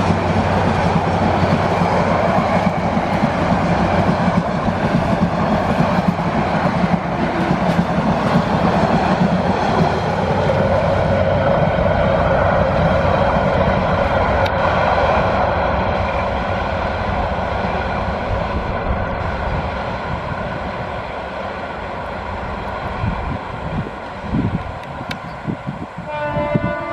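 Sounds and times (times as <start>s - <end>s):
train rumbling on rails: 0.0s - 26.9s.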